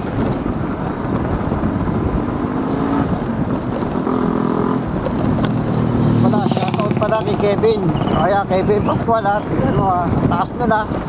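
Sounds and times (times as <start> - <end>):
road rumble: 0.0 - 11.0
wind buffeting: 0.0 - 11.0.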